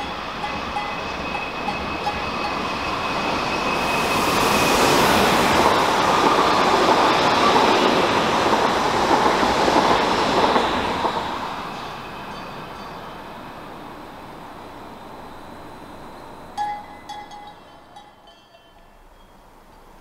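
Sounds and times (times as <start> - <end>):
train wheels rolling on track: 0.0 - 20.0.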